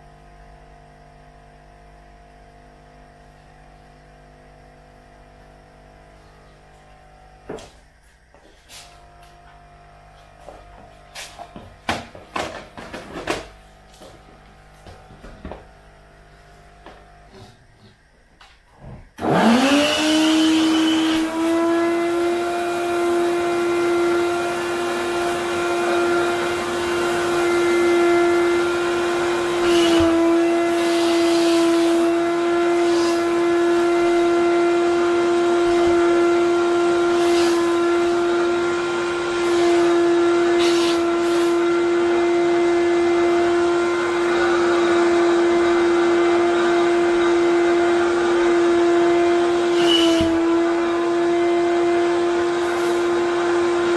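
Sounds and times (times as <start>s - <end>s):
wet vacuum cleaner whine: 0.0s - 53.9s.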